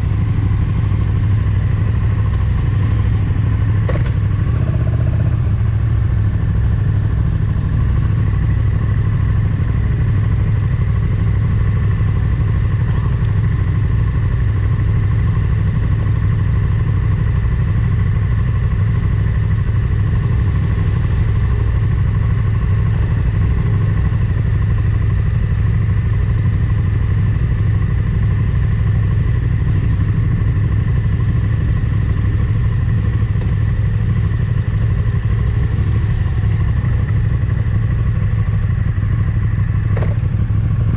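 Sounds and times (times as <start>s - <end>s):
motorcycle engine rumble: 0.0s - 40.9s.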